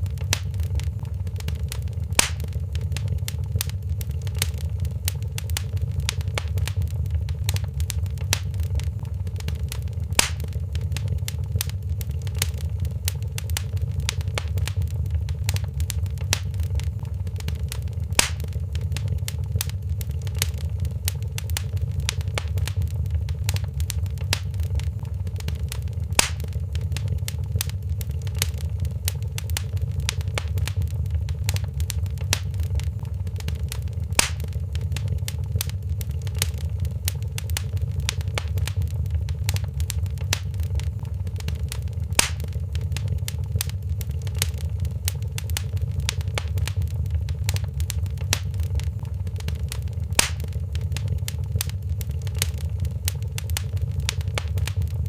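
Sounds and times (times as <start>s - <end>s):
loud fire pop: 0.0s - 28.6s, 29.4s - 36.6s, 37.4s - 44.6s, 50.1s - 52.6s
fire crackling: 0.0s - 55.0s
flame rumbling: 0.0s - 55.0s.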